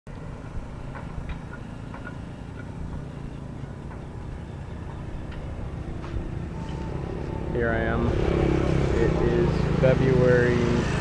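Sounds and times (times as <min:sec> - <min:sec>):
truck engine rumbling: 0:00.1 - 0:11.0.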